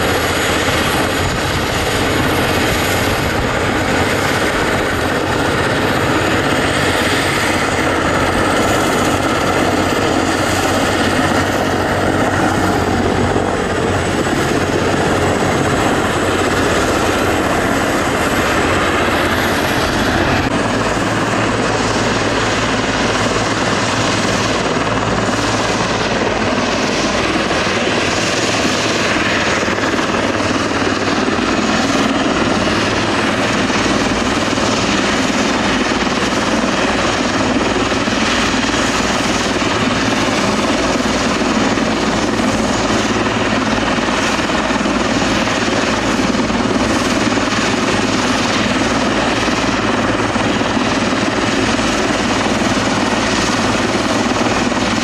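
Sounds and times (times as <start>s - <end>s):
helicopter turbine and rotor: 0.0s - 55.0s.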